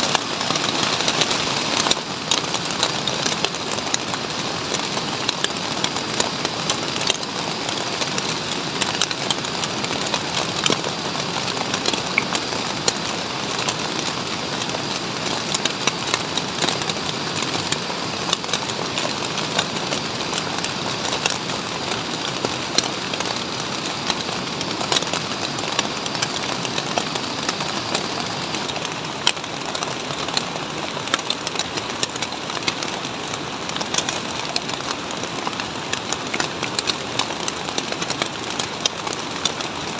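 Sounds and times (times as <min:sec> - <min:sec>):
heavy rain on plastic sheet: 0:00.0 - 0:39.9.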